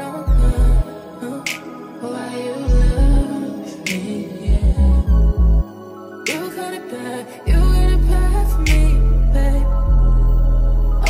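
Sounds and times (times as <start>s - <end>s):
song with deep bass: 0.0s - 11.0s.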